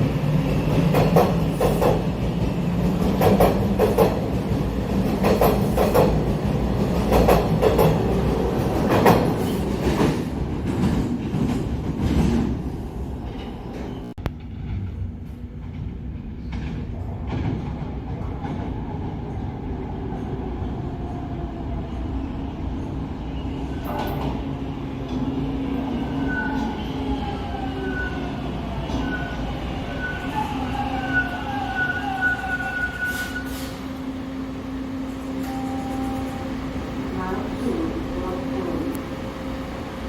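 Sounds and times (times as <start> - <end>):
subway train rumble and hum: 0.0 - 40.0.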